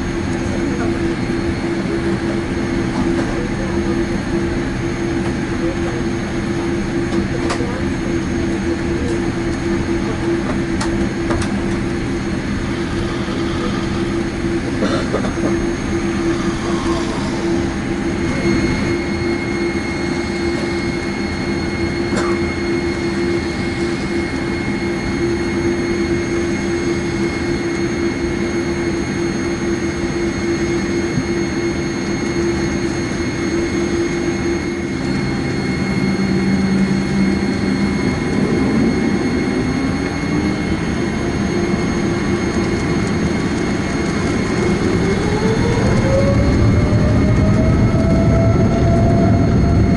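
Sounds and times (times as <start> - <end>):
jet engine hum from cabin: 0.0 - 49.9.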